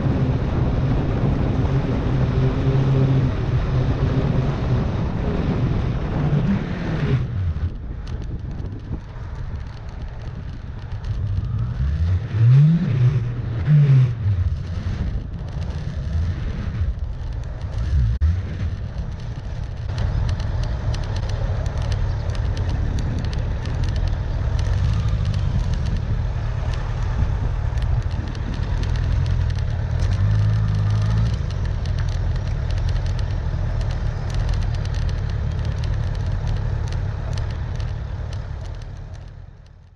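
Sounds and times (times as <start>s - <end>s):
wind and road noise: 0.0s - 39.9s
crackling clicks: 7.2s - 39.9s.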